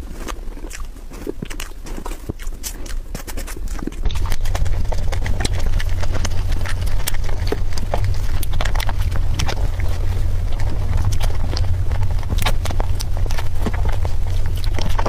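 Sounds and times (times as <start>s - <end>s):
steady low hum: 0.0s - 15.0s
wet mouth eating sounds: 0.0s - 15.0s.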